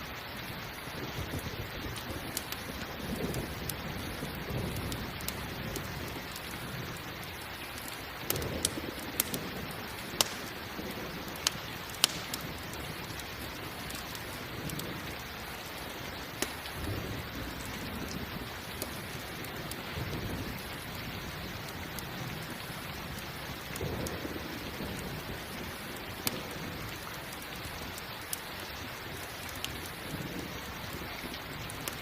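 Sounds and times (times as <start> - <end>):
campfire crackling and popping: 0.0 - 32.0
steady rain: 0.0 - 32.0.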